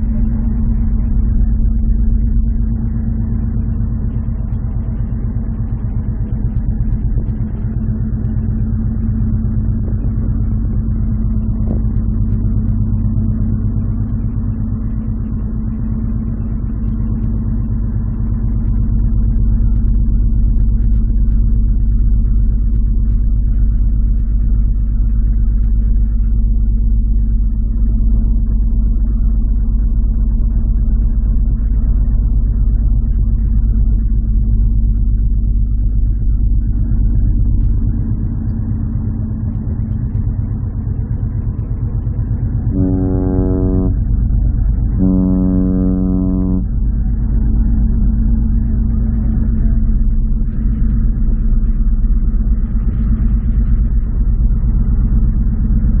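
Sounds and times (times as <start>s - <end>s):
constant hum: 0.0s - 56.0s.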